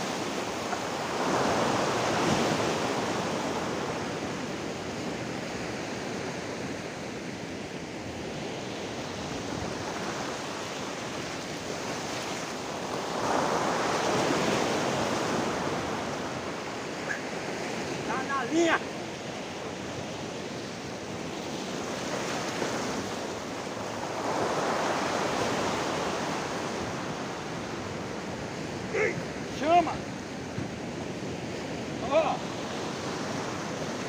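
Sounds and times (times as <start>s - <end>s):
surf washing over rocks: 0.0s - 34.0s.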